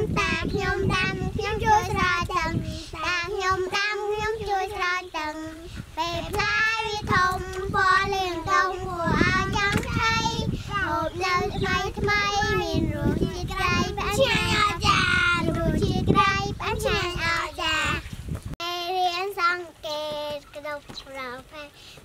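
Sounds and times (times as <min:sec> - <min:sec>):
little girl singing: 0:00.0 - 0:21.8.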